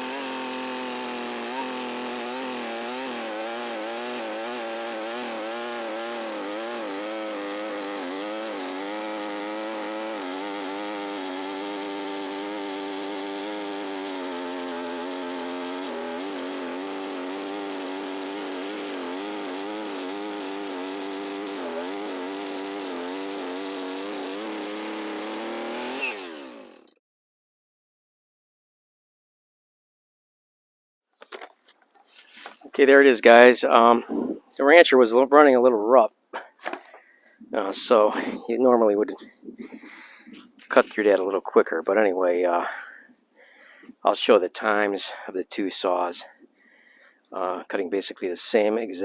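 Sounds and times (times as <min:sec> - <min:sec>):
chainsaw cutting log: 0:00.0 - 0:27.0, 0:31.2 - 0:34.7, 0:36.4 - 0:47.5.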